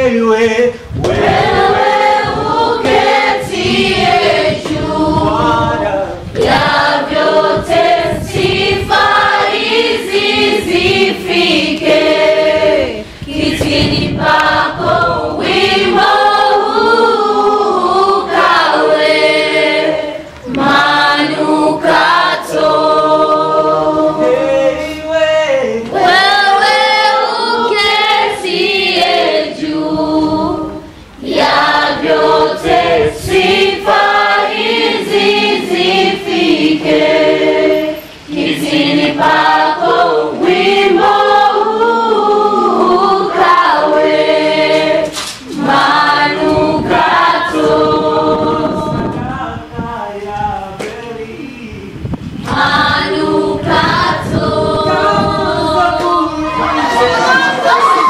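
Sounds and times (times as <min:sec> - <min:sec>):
congregation singing: 0:00.0 - 0:58.0.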